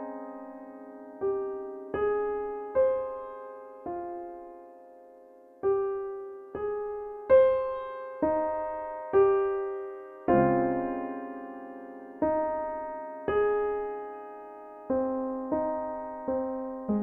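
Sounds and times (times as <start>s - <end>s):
soft keyboard melody: 0.0s - 17.0s.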